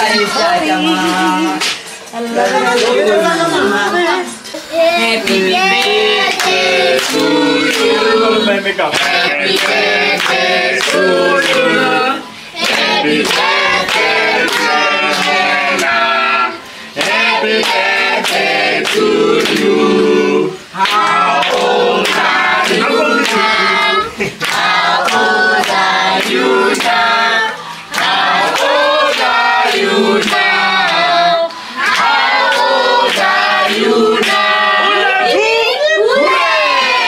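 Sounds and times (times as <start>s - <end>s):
people clapping along: 0.0s - 3.2s, 5.1s - 35.3s
group of people singing: 0.0s - 37.0s.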